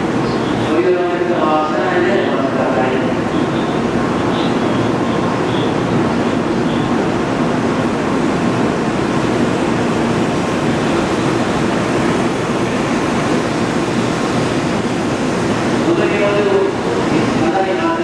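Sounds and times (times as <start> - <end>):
train cooling fans rushing: 0.0 - 18.0.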